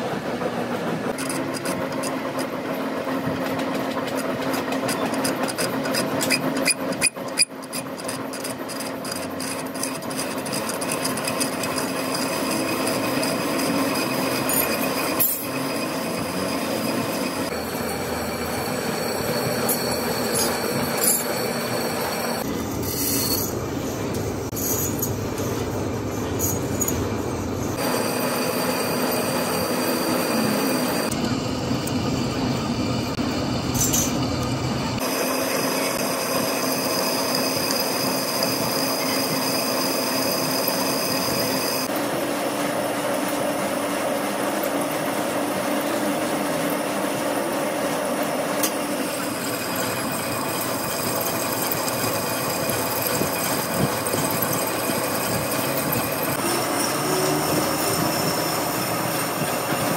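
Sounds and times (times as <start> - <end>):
steel being machined: 1.1 - 59.9.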